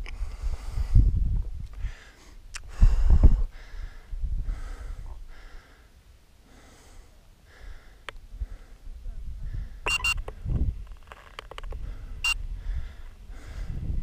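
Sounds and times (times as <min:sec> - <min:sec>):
person breathing hard: 0:00.1 - 0:09.8, 0:11.8 - 0:14.0.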